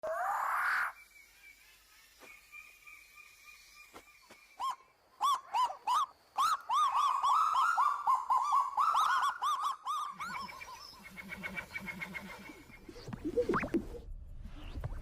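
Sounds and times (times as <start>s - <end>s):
birds calling: 0.5s - 13.4s.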